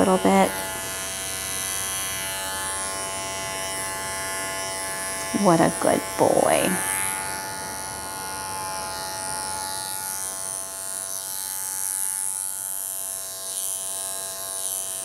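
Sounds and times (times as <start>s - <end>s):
electric clippers humming: 0.0s - 15.0s.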